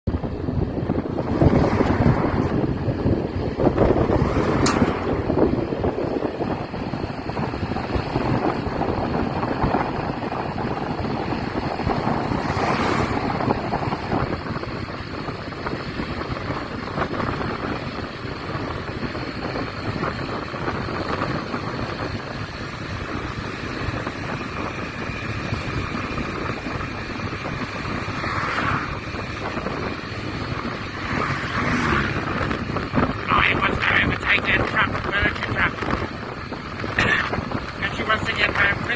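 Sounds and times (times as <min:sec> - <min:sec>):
road and engine noise: 0:00.0 - 0:38.9
wind buffeting microphone: 0:00.1 - 0:38.9.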